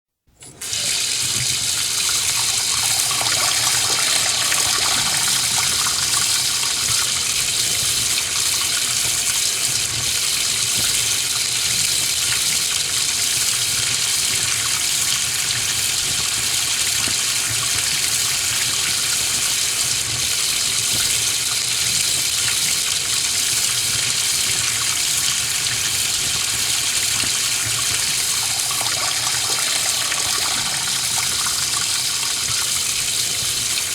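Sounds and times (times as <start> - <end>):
tap water splashing into sink: 0.4 - 33.9.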